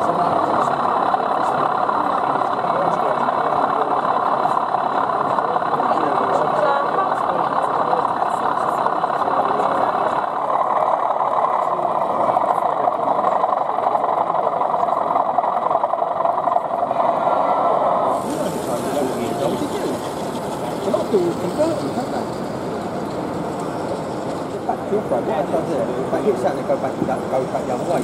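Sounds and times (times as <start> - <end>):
crowd chatter: 0.0 - 28.0
model locomotive diesel engine sound: 0.0 - 28.0.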